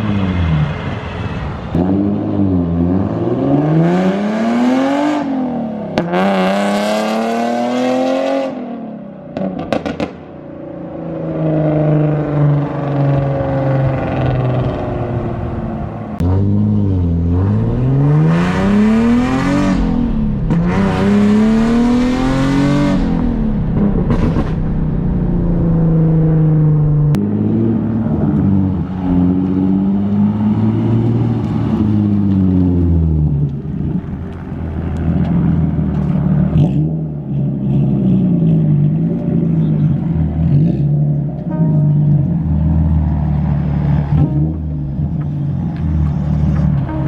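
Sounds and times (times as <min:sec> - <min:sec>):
car engine accelerating hard: 0:00.0 - 0:10.3, 0:11.2 - 0:47.0.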